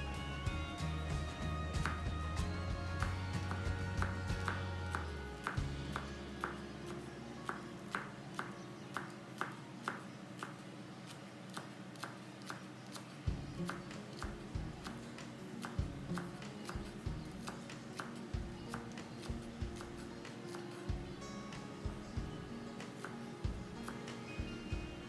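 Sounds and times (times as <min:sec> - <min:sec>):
soft background music: 0:00.0 - 0:25.0.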